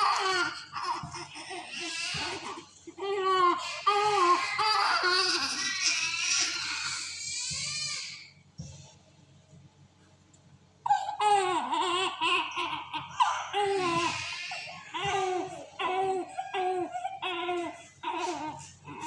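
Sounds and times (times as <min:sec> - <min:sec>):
newborn baby crying: 0:00.0 - 0:08.3, 0:10.8 - 0:19.0.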